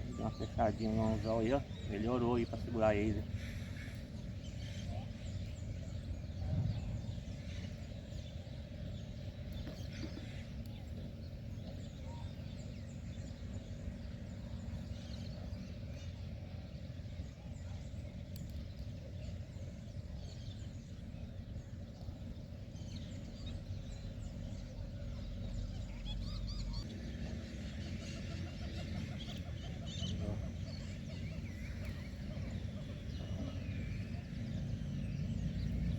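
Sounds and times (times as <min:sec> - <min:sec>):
birds calling and chirping: 0:00.0 - 0:35.9
steady low rumble: 0:00.0 - 0:35.9.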